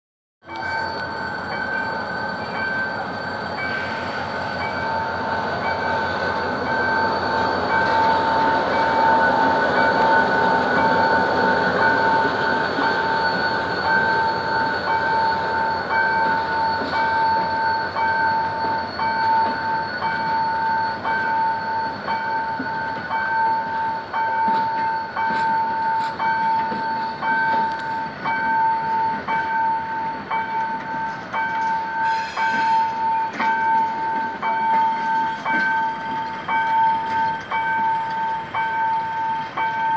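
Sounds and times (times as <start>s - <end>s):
diesel locomotive rumbling: 0.4s - 39.9s
level-crossing warning alarm: 0.4s - 39.9s.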